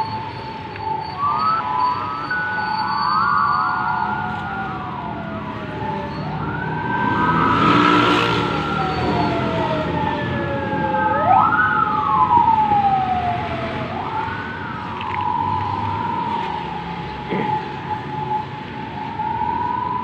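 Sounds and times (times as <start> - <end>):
electronic siren wailing: 0.0 - 20.0.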